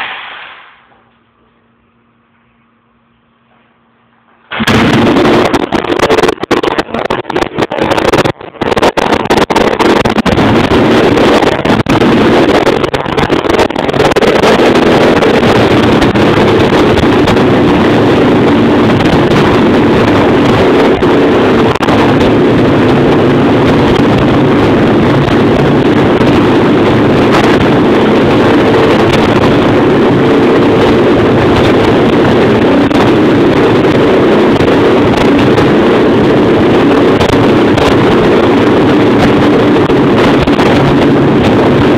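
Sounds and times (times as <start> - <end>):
dirt bike engine running: 4.4 - 41.9.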